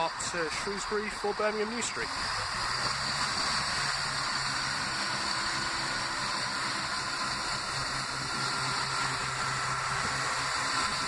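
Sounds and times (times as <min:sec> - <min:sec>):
train diesel engine running: 0:00.0 - 0:11.0.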